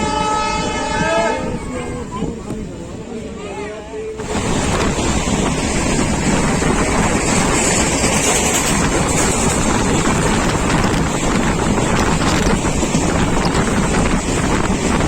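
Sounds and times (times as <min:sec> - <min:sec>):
wind rushing on microphone: 0:00.0 - 0:03.4, 0:04.2 - 0:15.0
train wheel and track noise: 0:00.0 - 0:15.0.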